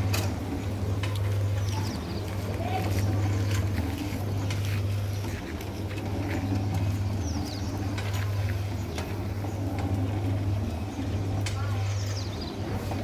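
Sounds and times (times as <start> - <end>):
hoist electric motor humming: 0.0 - 13.0.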